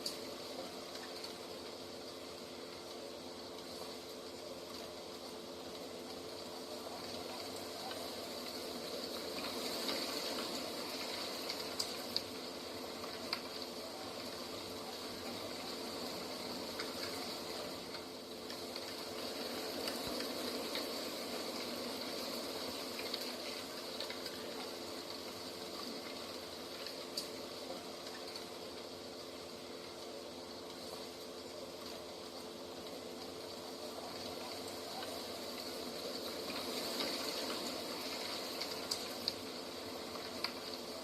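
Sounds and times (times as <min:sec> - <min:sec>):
faint clicks and ticks: 0:00.0 - 0:41.0.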